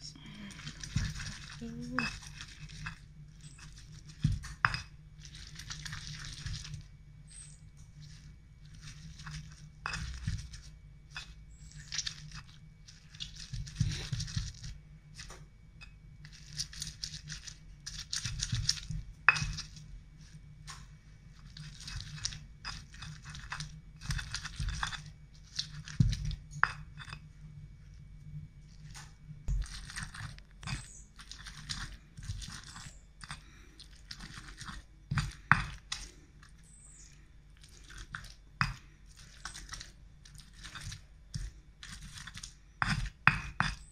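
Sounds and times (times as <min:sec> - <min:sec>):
wet crunching and grinding: 0:00.0 - 0:43.9.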